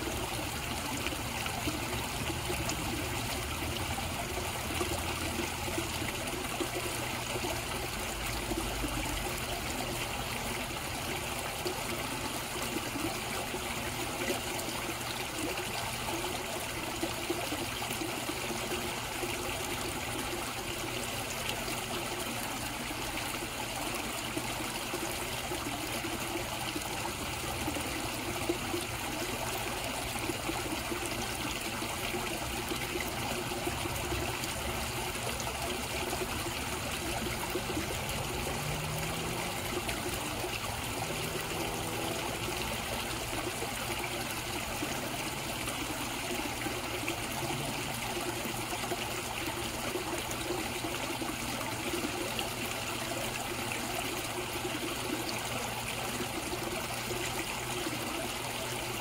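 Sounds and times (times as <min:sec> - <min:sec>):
pond water trickling and splashing: 0:00.0 - 0:59.0.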